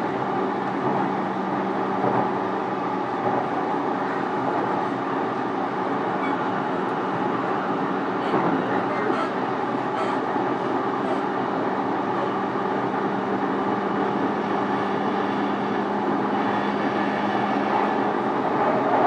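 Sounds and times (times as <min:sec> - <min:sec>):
faint traction equipment hum: 0:00.0 - 0:19.0
train wheels rumbling on rails: 0:00.0 - 0:19.0.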